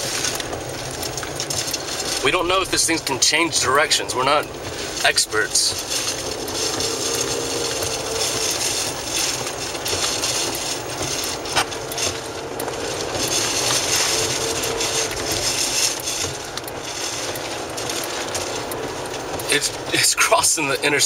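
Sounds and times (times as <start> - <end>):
faint engine hum: 0.0 - 21.0
road and wind noise in car: 0.0 - 21.0
tyres hissing on wet road: 0.0 - 21.0.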